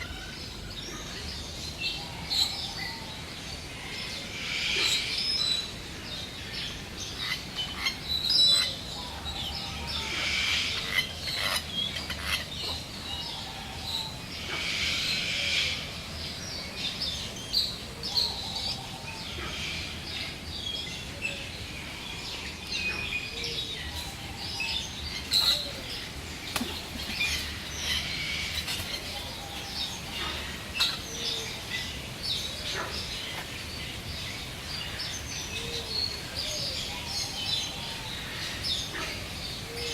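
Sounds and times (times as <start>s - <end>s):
chorus of birds chirping: 0.0s - 39.9s.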